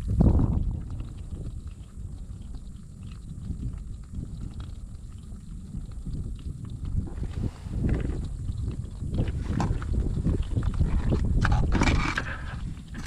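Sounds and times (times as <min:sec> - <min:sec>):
crabs clicking and scraping: 0:00.0 - 0:13.0
wind rumbling on microphone: 0:00.0 - 0:13.0.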